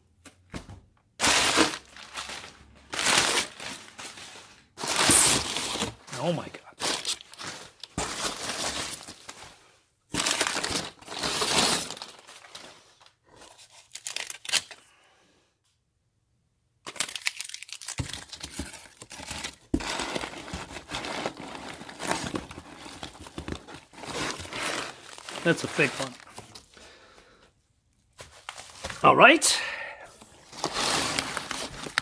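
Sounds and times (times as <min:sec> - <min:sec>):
cardboard and packing rustling: 0:00.4 - 0:14.7, 0:16.9 - 0:26.9, 0:28.0 - 0:29.1, 0:30.1 - 0:32.0.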